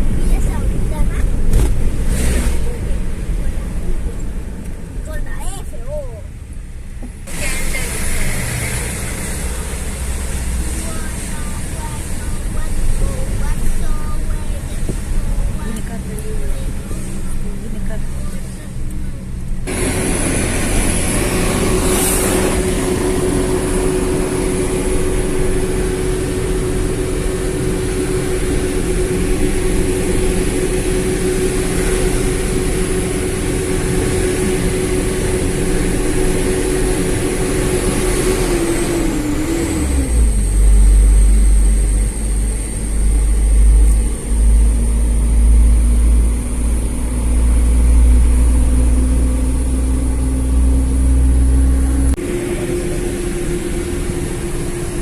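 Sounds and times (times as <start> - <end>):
heavy uneven low rumble: 0.0 - 55.0
vehicle engine and road noise: 0.0 - 55.0.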